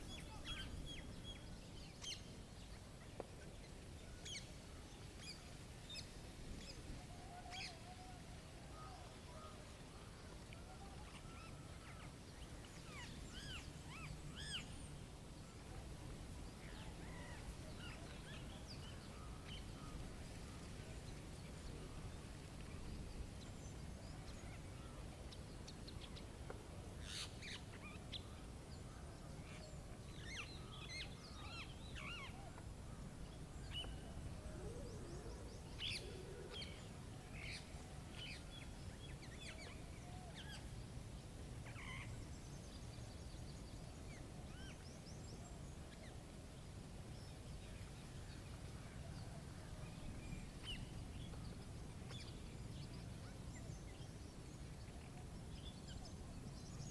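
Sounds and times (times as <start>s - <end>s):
faint birdsong: 0.0s - 56.9s.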